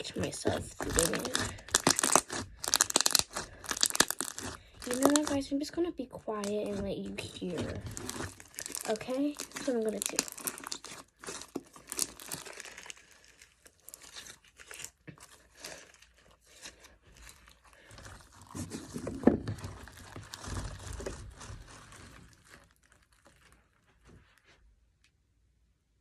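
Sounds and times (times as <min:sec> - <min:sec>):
slime squished by hand: 0:00.0 - 0:24.1.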